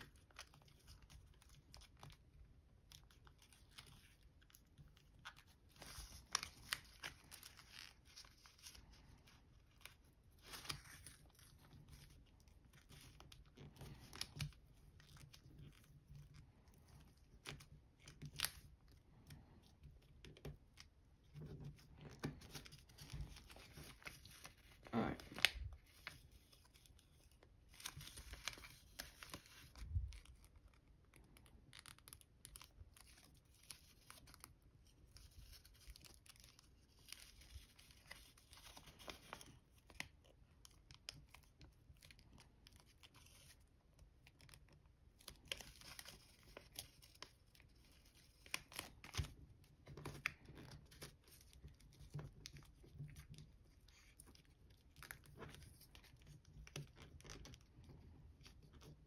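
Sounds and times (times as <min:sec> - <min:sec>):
paper crinkling as it is folded: 0:00.0 - 0:59.0
paper rustles: 0:00.0 - 0:59.0.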